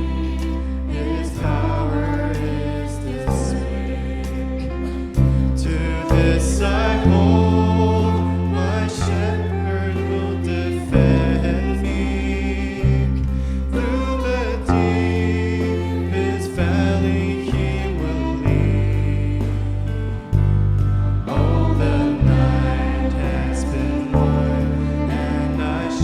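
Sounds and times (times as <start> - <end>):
bass notes: 0.0 - 26.0
group of voices singing: 0.0 - 26.0
praise band playing: 0.0 - 26.0.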